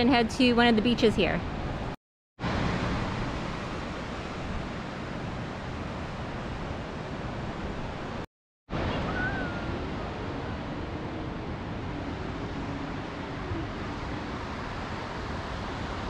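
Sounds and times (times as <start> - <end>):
ocean surf: 1.4 - 16.0
wind on microphone: 2.6 - 16.0.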